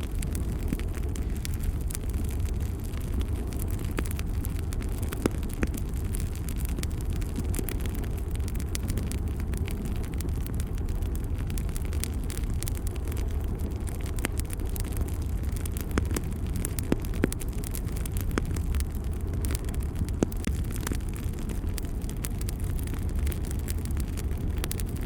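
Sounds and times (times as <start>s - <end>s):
fire crackling and popping: 0.0s - 25.0s
fire flames rumbling: 0.0s - 25.0s.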